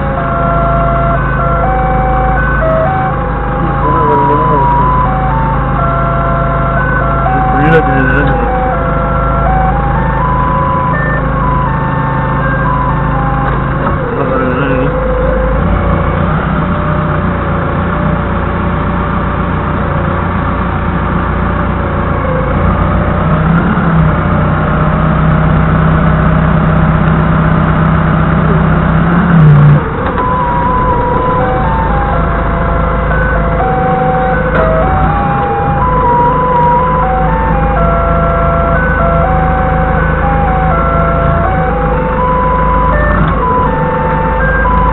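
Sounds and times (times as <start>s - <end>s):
forklift engine running: 0.0s - 44.9s.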